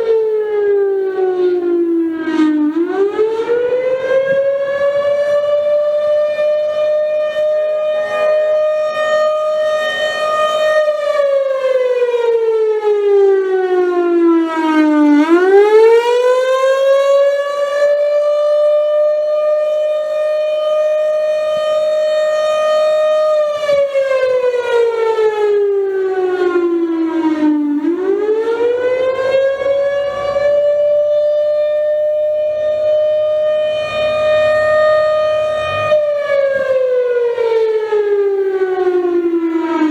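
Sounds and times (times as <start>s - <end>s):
warning siren rising and falling: 0.0s - 39.9s.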